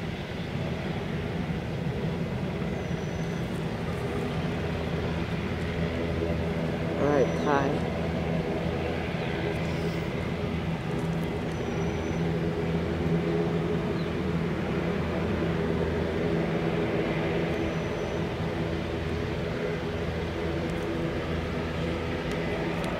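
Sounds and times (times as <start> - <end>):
distant jet engines droning: 0.0 - 22.9.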